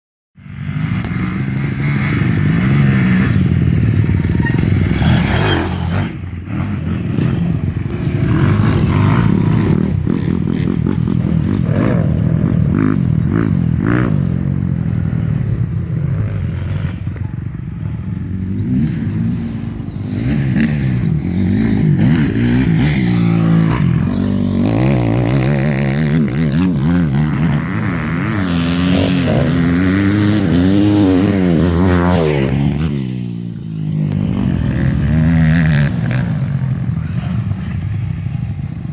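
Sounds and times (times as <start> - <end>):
motorcycle engine revving: 0.4 - 38.9.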